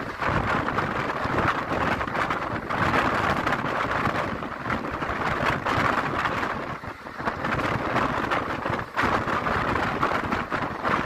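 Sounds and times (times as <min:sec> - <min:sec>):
train wheels on rails: 0:00.0 - 0:11.0
wind buffeting microphone: 0:00.0 - 0:11.0.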